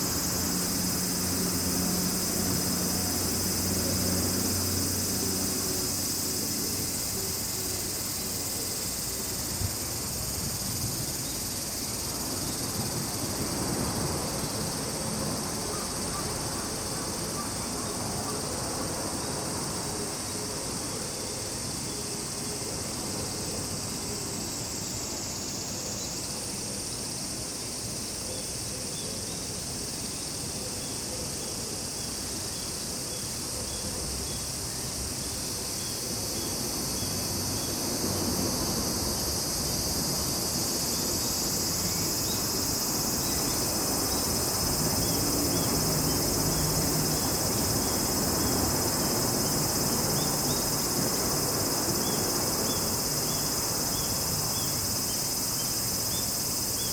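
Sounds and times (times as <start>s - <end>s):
cicadas and crickets droning: 0.0s - 56.9s.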